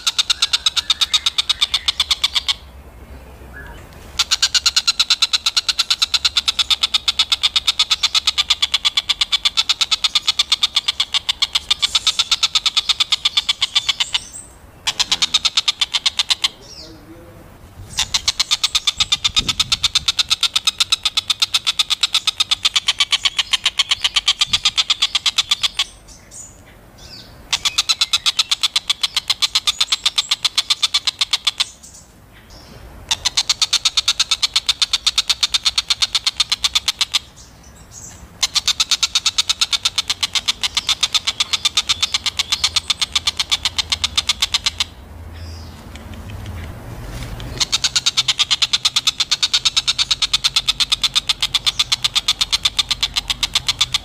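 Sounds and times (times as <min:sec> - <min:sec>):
bird chattering call: 0:00.0 - 0:02.7, 0:03.5 - 0:54.0.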